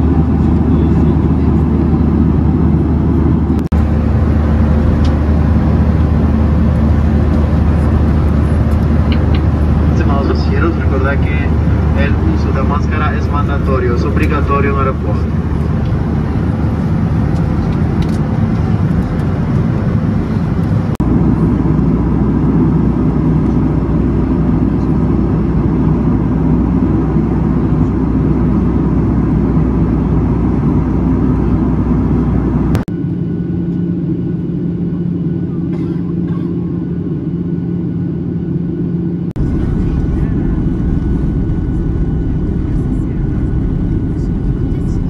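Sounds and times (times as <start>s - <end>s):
airliner cabin drone: 0.0s - 45.0s
steady low hum: 0.0s - 45.0s.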